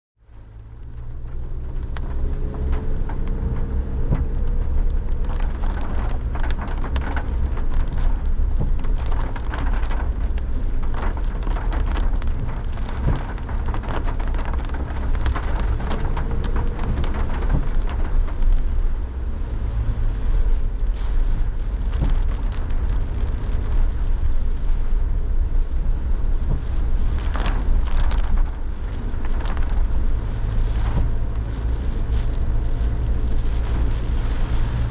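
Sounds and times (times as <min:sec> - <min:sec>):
heavy rain drumming on surfaces: 0:00.2 - 0:34.9
low rumble of wind: 0:00.2 - 0:34.9.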